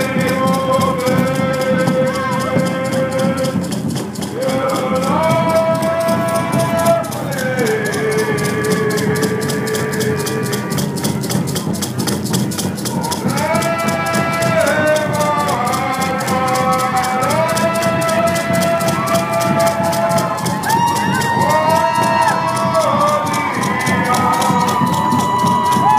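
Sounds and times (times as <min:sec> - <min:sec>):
fast percussion beat: 0:00.0 - 0:25.9
voices singing held notes: 0:00.0 - 0:25.9.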